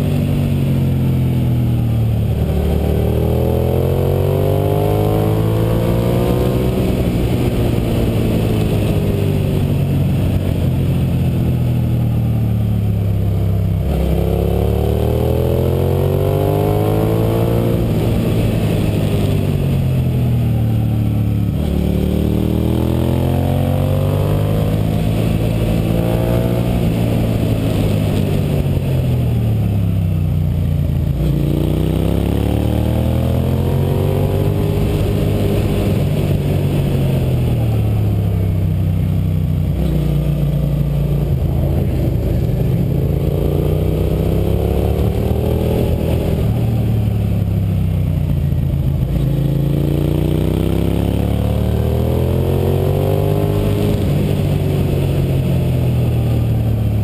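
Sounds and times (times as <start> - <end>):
motorcycle engine revving: 0.0 - 57.0
road noise: 0.0 - 57.0.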